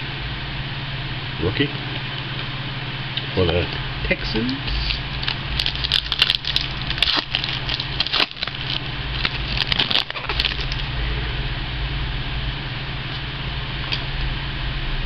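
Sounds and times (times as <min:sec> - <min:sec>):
steady low hum with hiss: 0:00.0 - 0:15.0.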